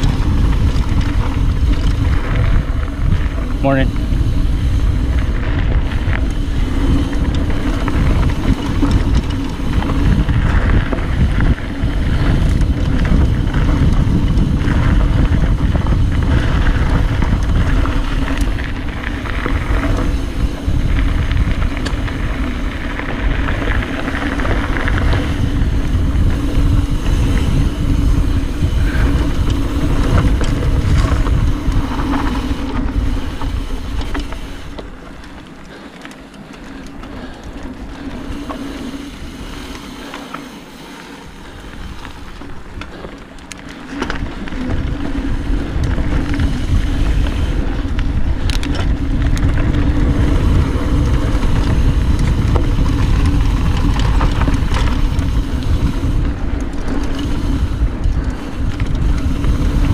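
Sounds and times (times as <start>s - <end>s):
bike clattering: 0.0s - 59.9s
tyres rumbling on dirt: 0.0s - 59.9s
wind buffeting microphone: 0.0s - 59.9s.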